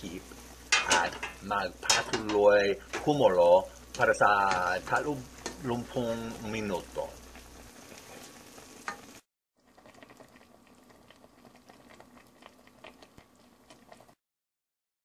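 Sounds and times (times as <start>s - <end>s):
pot of stew bubbling: 0.0s - 14.2s.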